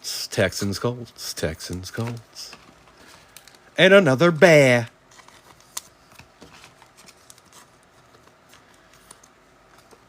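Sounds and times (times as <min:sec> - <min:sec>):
soft rustling of card packs: 0:00.4 - 0:10.0.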